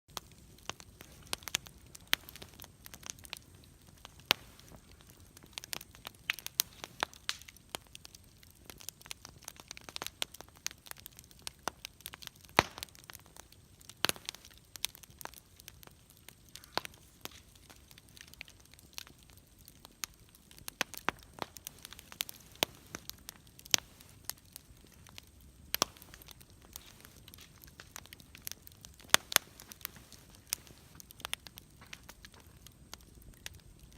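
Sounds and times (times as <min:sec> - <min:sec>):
campfire crackling and popping: 0:00.1 - 0:33.9
faint steady hiss: 0:00.1 - 0:33.9.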